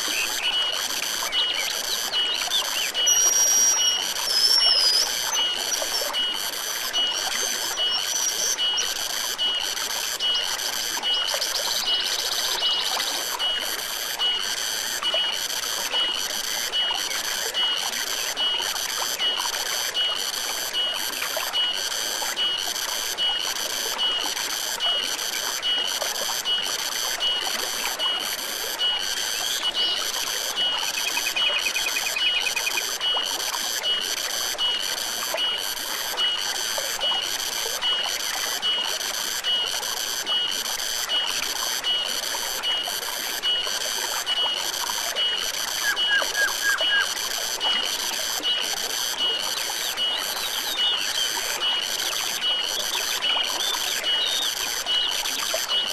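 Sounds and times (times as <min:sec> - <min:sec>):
stream running: 0:00.0 - 0:55.9.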